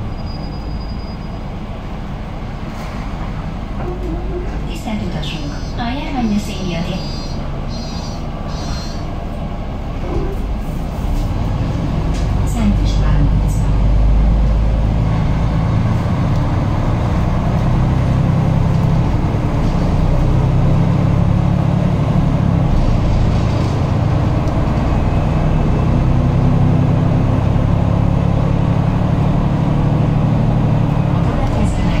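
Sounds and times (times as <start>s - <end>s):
bus engine drone: 0.0s - 32.0s
road noise: 0.0s - 32.0s.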